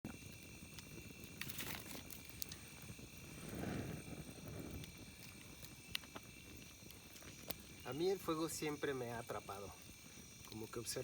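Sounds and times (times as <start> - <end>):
campfire crackling: 0.1 - 11.0
faint high whine: 0.1 - 11.0
low rush of flame: 0.1 - 11.0.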